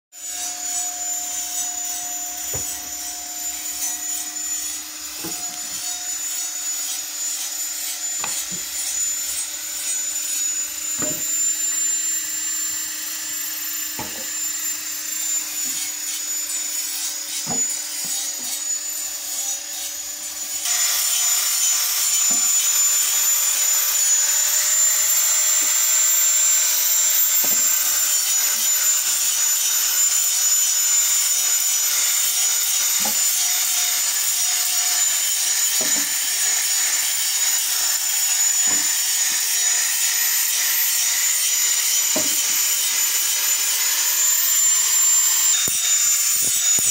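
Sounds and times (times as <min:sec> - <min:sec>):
hissing bandsaw: 0:00.2 - 0:46.9
sawmill machinery humming: 0:00.2 - 0:46.9.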